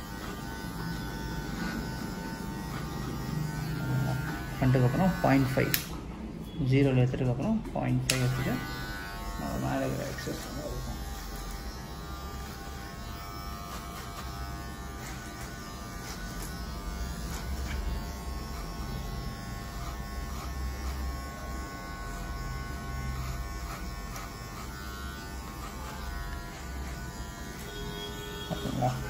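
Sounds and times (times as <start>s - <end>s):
electric hair clippers buzzing: 0.0s - 6.1s, 8.0s - 29.0s.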